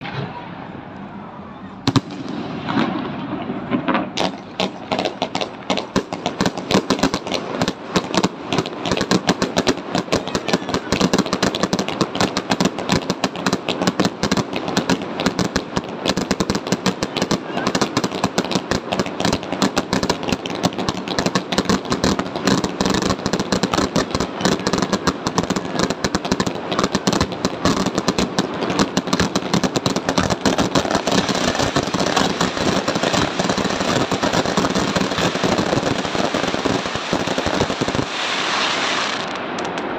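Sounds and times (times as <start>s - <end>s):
fireworks crackling and popping: 1.8s - 39.9s.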